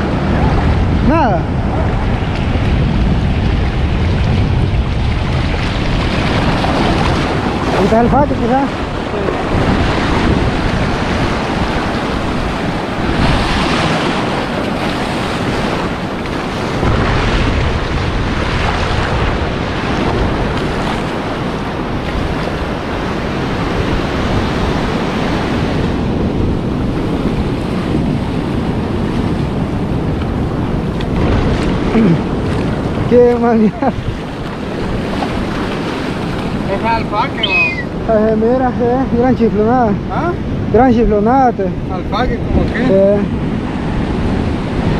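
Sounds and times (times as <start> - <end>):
surf washing over sand: 0.0 - 44.9
waves breaking offshore: 0.0 - 44.9
wind buffeting microphone: 0.0 - 44.9.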